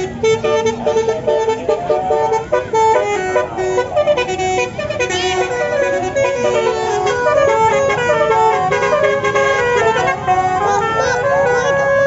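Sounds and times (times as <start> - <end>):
musical bus horn melody: 0.0 - 12.0.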